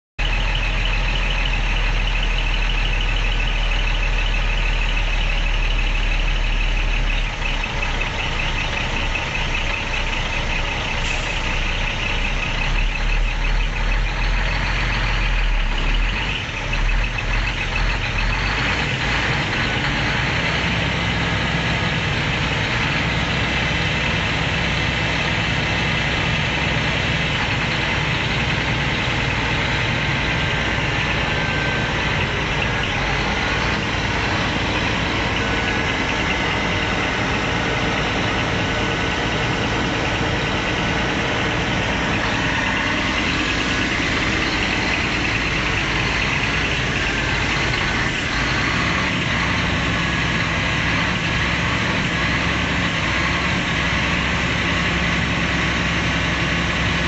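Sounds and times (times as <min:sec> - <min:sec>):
diesel truck engine idling: 0:00.2 - 0:57.0
low hum of truck moving: 0:00.2 - 0:57.0.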